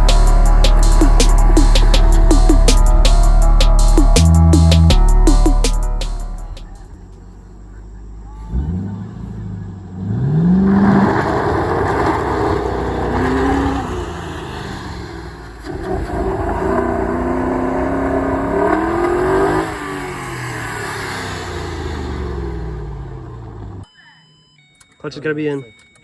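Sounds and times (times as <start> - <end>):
car engine revving: 0.0 - 7.0, 8.5 - 23.8.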